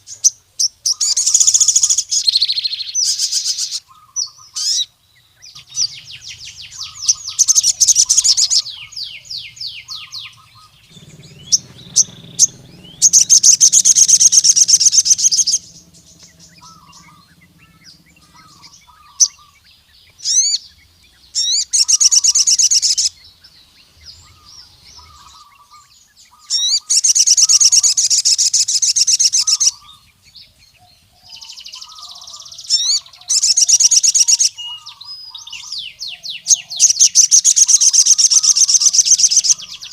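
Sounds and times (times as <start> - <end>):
bird singing fast high trills: 0.0 - 39.9
bird chirps and whistled sweeps: 0.9 - 39.9.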